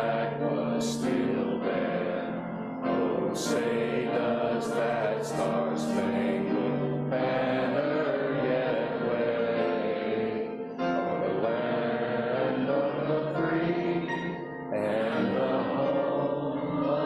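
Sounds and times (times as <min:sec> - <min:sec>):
choir singing: 0:00.0 - 0:17.0
musical accompaniment: 0:00.0 - 0:17.0.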